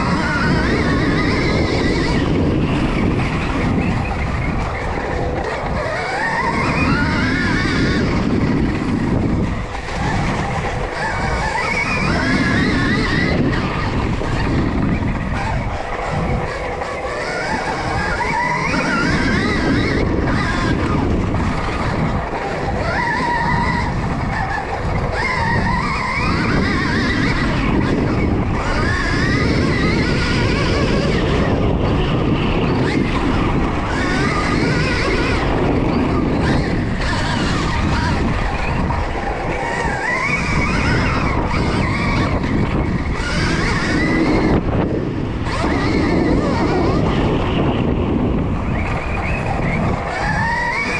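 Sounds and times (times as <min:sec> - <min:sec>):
chassis rattle: 0:00.0 - 0:50.9
electric motorbike motor whine: 0:00.0 - 0:50.9
knobby tyres on ground: 0:00.0 - 0:50.9
wind rushing: 0:00.0 - 0:50.9.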